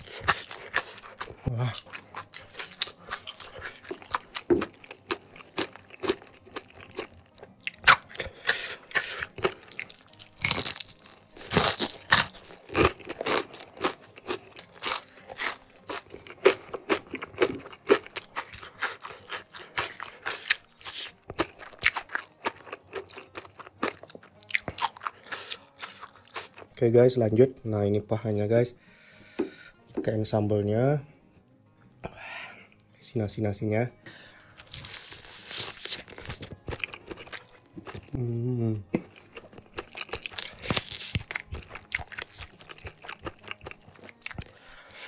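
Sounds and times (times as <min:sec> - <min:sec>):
crunchy chewing: 0:00.0 - 0:26.8, 0:34.5 - 0:38.2, 0:38.9 - 0:45.0.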